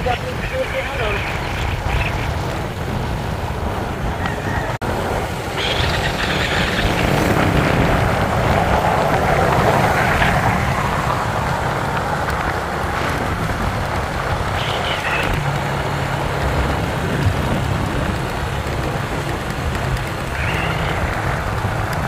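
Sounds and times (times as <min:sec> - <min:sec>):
motorcycle engine: 0:00.0 - 0:22.0
wind noise: 0:00.0 - 0:22.0.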